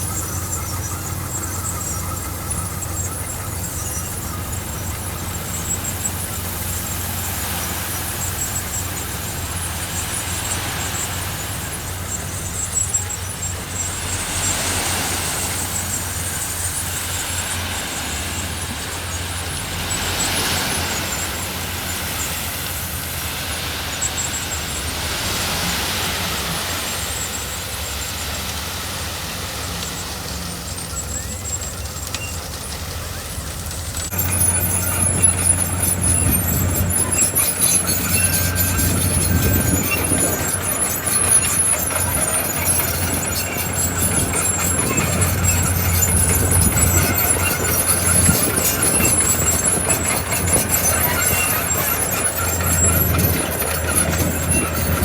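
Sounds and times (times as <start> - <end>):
diesel machinery running: 0.0 - 55.0
gravel scraping: 0.0 - 55.0.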